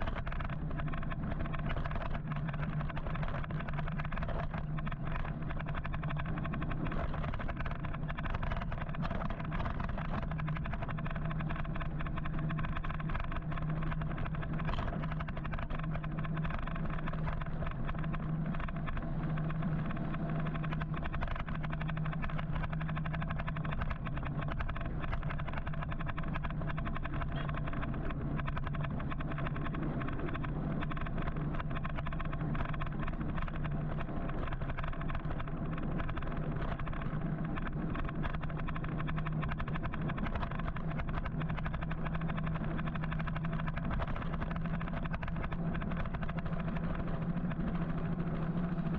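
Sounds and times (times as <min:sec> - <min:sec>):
electric motor low hum: 0:00.0 - 0:48.9
road and wind noise: 0:00.0 - 0:48.9.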